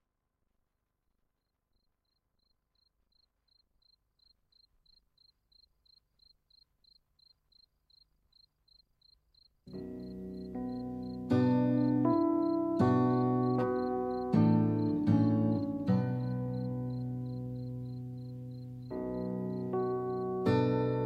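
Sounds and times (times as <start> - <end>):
cricket chirping: 1.4 - 21.0.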